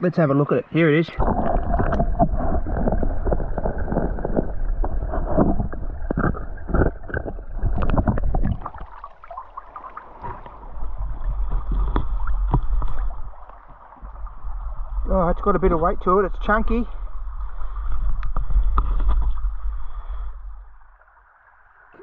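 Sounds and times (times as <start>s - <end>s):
water dripping: 1.2s - 20.0s
creek water sloshing and gurgling: 1.2s - 22.0s.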